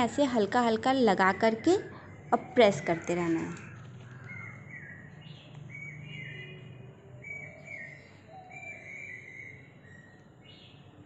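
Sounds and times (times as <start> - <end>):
birds calling faintly: 0.0 - 11.0
low steady outdoor hum: 0.0 - 11.0.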